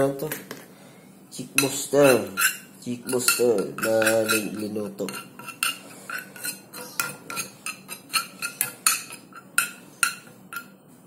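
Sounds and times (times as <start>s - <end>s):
metal spoon stirring in saucepan: 1.4s - 10.9s.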